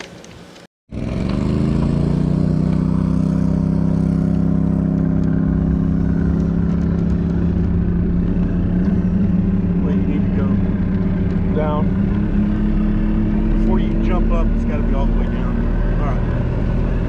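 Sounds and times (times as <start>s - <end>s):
boat engine drone: 1.4s - 17.0s.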